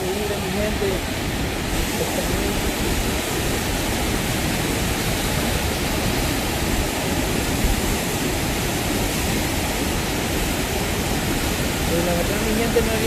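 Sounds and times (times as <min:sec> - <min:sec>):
rushing river water: 0:00.0 - 0:13.0.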